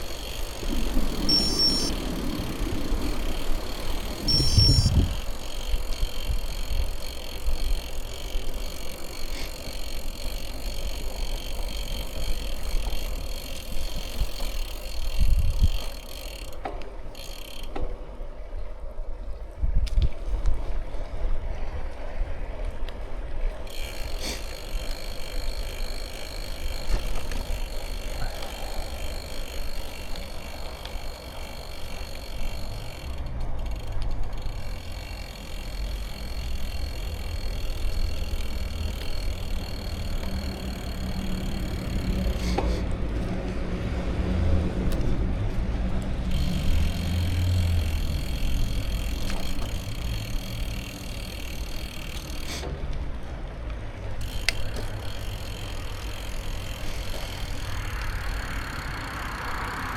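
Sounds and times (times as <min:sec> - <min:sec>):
freewheel ratchet buzzing: 0:00.0 - 0:17.9, 0:23.6 - 0:43.5, 0:45.9 - 0:59.9
bicycle tyres rumbling: 0:00.0 - 0:59.9.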